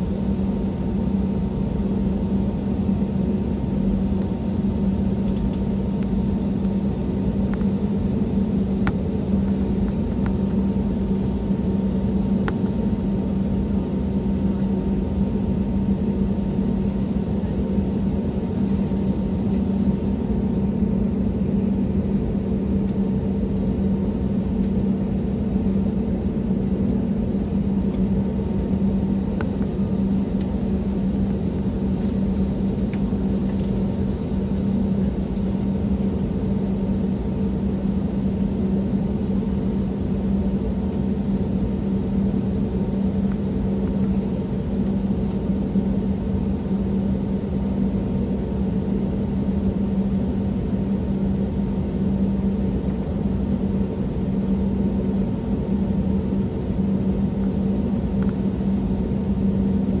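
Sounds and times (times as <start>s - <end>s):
air-conditioning rush: 0.0s - 60.0s
jet engines idling: 0.1s - 60.0s.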